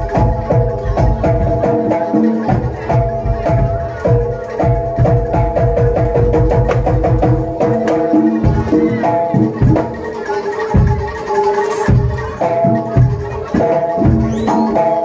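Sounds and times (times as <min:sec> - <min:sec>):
pitched metal percussion notes: 0:00.0 - 0:15.0.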